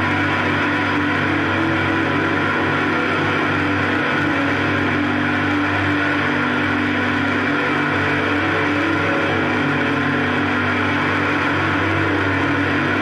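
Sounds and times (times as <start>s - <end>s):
drone music: 0.0s - 13.0s.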